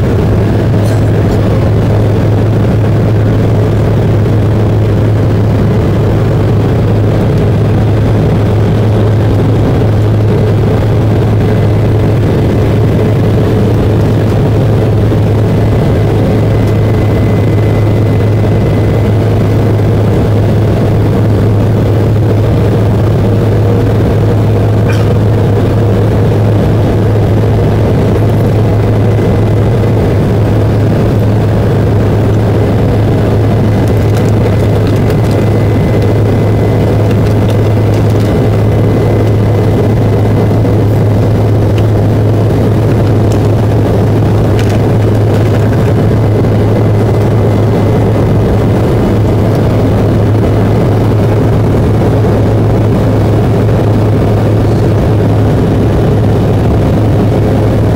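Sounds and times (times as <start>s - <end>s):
jet engines droning: 0.0s - 57.9s
low hum: 0.0s - 57.9s
rush of airflow: 0.0s - 57.9s.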